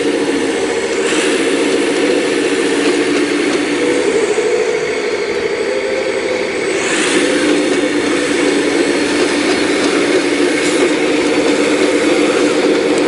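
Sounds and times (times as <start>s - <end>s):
excavator diesel engine digging: 0.0s - 13.0s.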